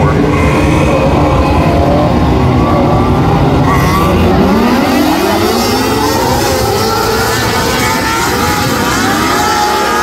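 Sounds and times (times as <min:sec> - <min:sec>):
race car engines revving: 0:00.0 - 0:10.0.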